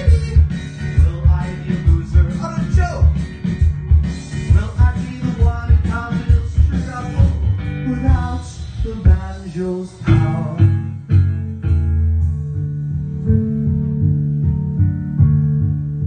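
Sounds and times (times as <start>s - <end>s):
song with guitar: 0.0s - 16.0s.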